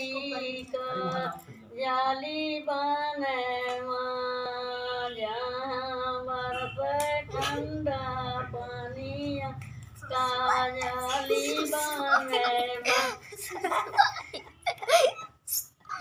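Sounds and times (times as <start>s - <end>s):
elderly woman singing: 0.0s - 13.3s.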